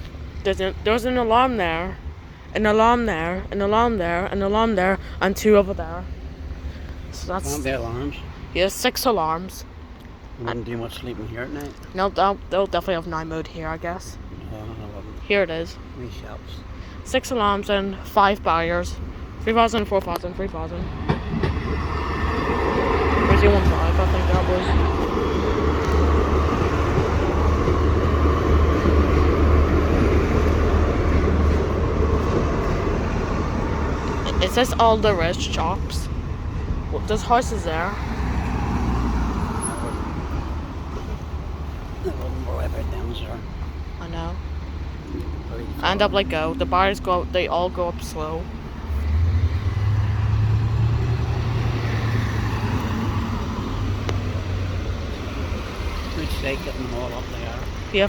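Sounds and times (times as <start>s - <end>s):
diesel train rumbling: 0.0s - 58.0s
road traffic noise: 0.0s - 58.0s.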